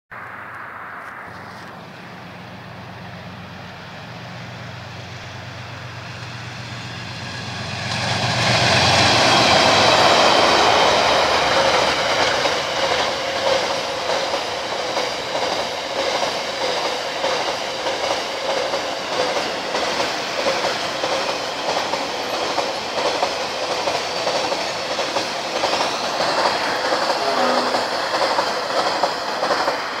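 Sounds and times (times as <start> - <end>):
diesel locomotive engine drone: 0.1 - 30.0
train wheels clickety-clack: 4.5 - 30.0.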